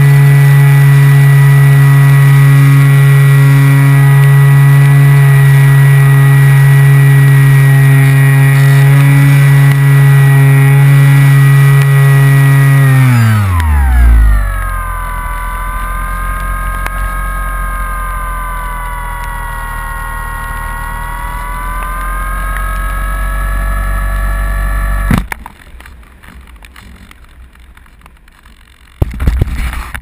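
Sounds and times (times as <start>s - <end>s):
model plane motor whine: 0.0s - 25.3s.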